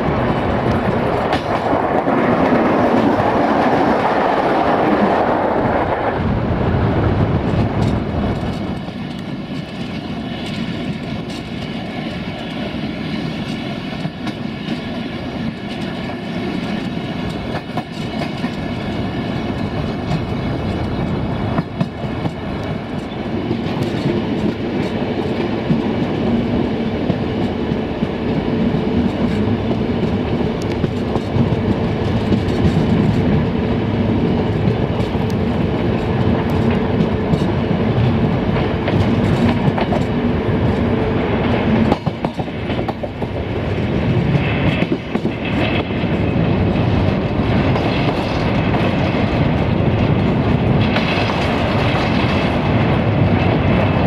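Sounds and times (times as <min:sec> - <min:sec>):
train wheels rumbling on rails: 0:00.0 - 0:54.0
wheels clicking over rail joints: 0:07.4 - 0:54.0.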